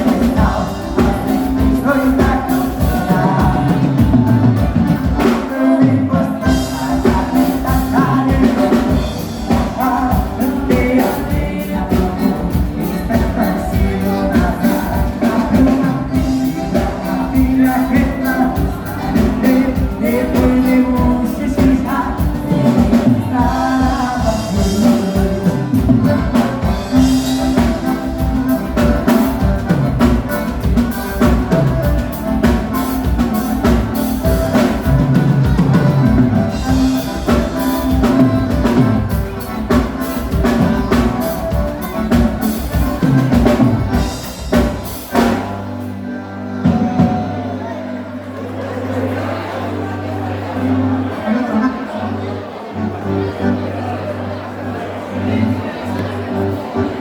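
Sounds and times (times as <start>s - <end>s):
drum kit beat: 0.0s - 46.0s
person singing: 0.0s - 54.0s
button accordion: 0.0s - 57.0s.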